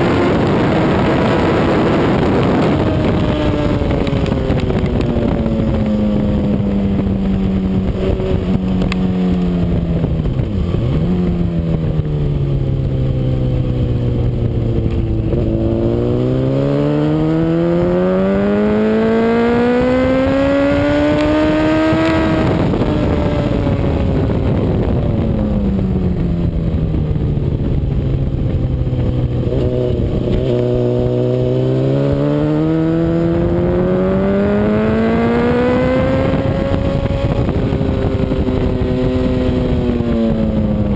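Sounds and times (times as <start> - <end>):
sport motorcycle engine revving: 0.0 - 40.9.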